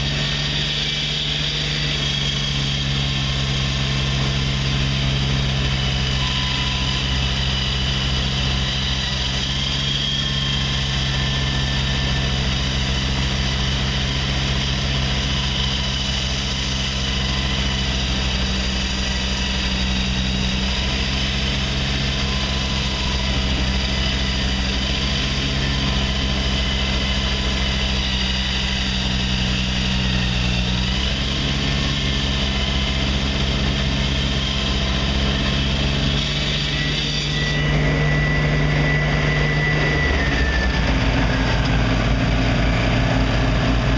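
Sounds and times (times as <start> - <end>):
engine drone: 0.0 - 43.9
high whine: 0.0 - 43.9.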